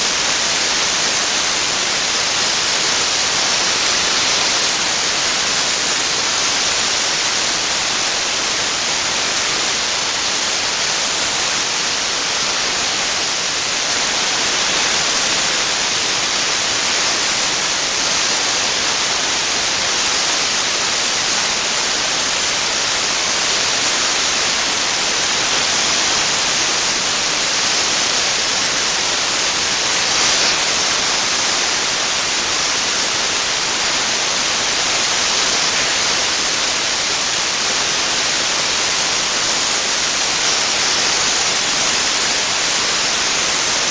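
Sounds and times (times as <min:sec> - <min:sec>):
compressed-air jet hissing: 0:00.0 - 0:43.9.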